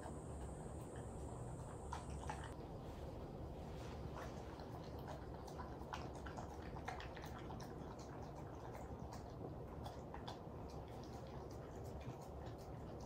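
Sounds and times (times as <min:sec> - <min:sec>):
dog chewing and licking: 0:00.0 - 0:02.7, 0:03.9 - 0:13.0
low steady hum: 0:00.0 - 0:13.0.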